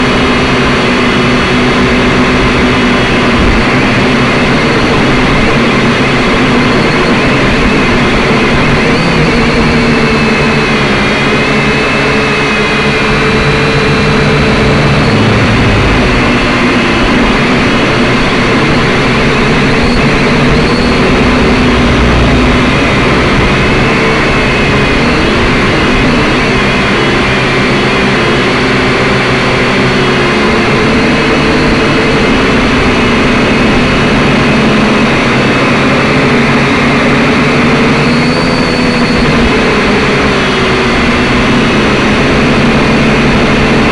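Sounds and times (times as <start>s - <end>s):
quadcopter motors buzzing: 0.0s - 43.9s.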